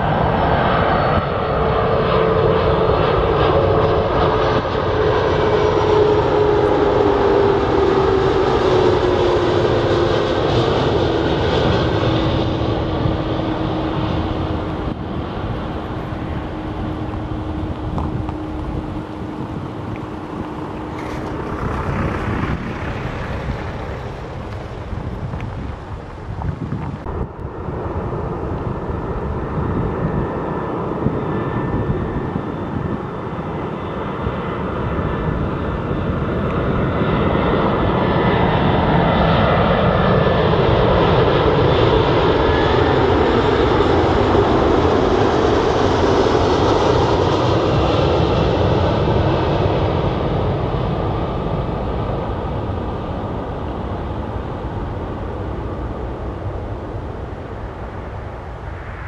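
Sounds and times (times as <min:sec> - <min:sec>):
jet airliner passing by: 0:00.0 - 0:59.0.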